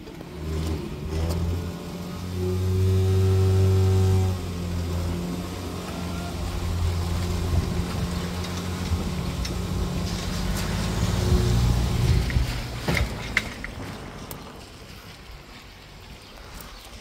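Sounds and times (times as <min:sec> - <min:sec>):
low mechanical hum: 0:00.0 - 0:15.4.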